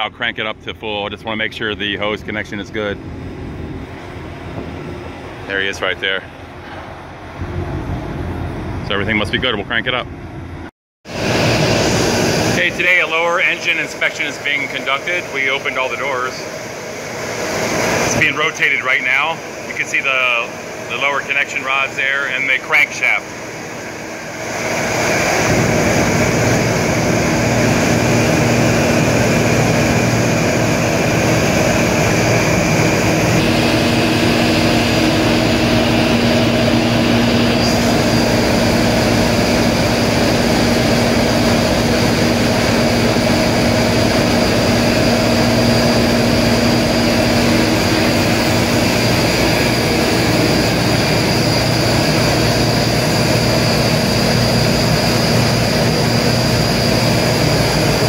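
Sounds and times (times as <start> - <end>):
engine room machinery hum: 0.0 - 58.0
high machinery whine: 0.0 - 58.0.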